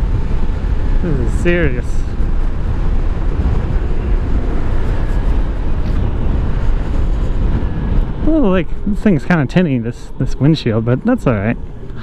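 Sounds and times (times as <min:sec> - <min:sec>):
road noise: 0:00.0 - 0:12.0
wind rush: 0:00.0 - 0:12.0.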